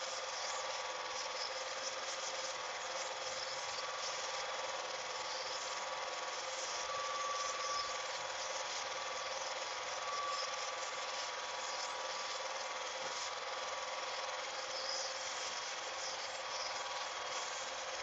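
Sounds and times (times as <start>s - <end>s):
film projector whirring: 0.0s - 18.0s.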